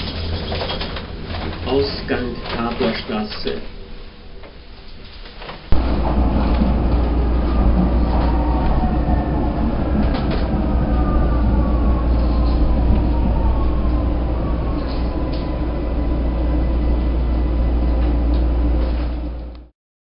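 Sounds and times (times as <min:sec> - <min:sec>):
train rumbling: 0:00.0 - 0:19.7.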